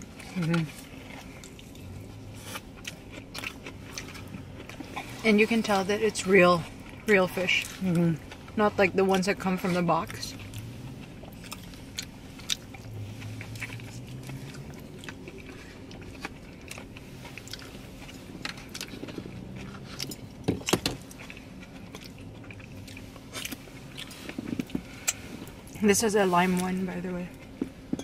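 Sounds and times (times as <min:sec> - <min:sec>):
person chewing: 0:00.0 - 0:05.8, 0:06.6 - 0:25.8.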